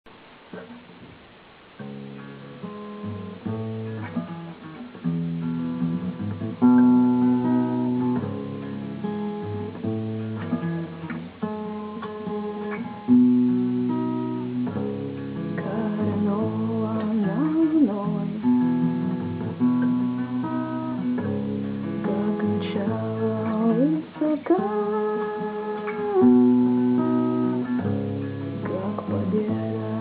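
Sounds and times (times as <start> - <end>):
acoustic guitar chords: 0.1 - 30.0
loud strummed guitar chords: 1.8 - 30.0.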